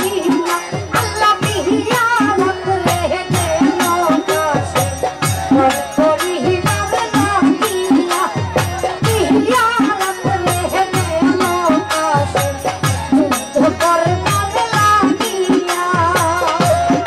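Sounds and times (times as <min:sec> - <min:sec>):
quick drum beat: 0:00.0 - 0:17.0
rattling percussion: 0:00.0 - 0:17.0.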